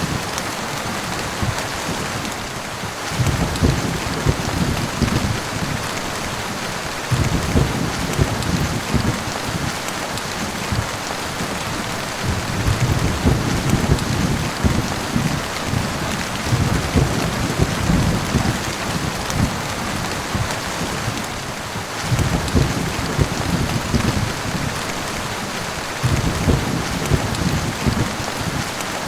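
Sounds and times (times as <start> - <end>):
steady rain: 0.0 - 29.0
rolling thunder: 1.3 - 9.8, 10.6 - 28.8.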